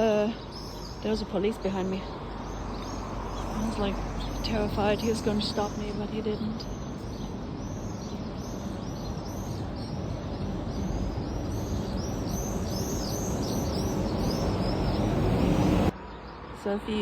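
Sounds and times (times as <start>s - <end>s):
swallows chirping: 0.0s - 16.8s
rushing outdoor noise: 0.0s - 17.0s.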